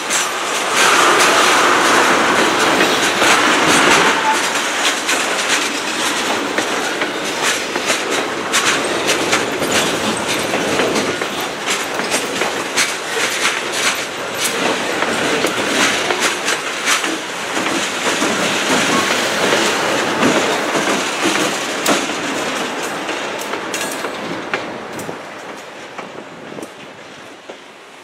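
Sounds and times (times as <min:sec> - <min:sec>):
wheels clicking over rail joints: 0:00.0 - 0:27.6
freight train rolling past: 0:00.0 - 0:28.0.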